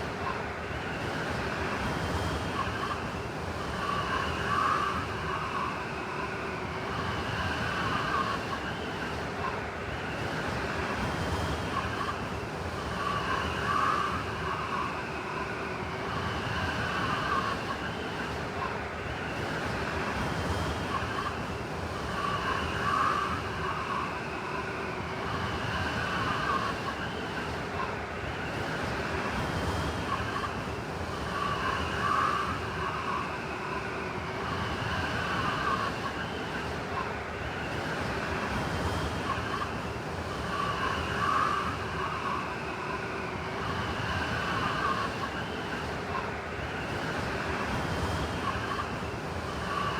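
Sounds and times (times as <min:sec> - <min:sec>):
faint wind whistling: 0:00.0 - 0:49.9
blizzard wind howling: 0:02.5 - 0:49.9.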